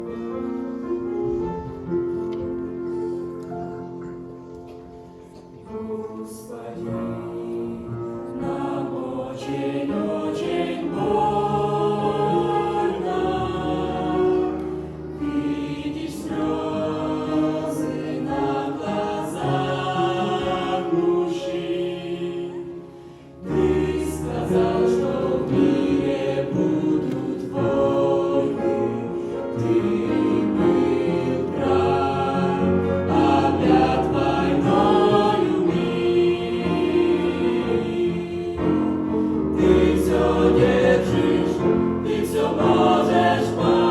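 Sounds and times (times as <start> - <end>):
choir singing sustained chords: 2.9 - 43.9.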